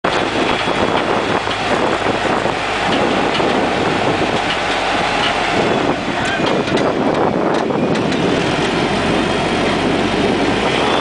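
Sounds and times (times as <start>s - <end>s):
tram rumble: 0.0s - 11.0s
wind buffeting microphone: 0.0s - 11.0s.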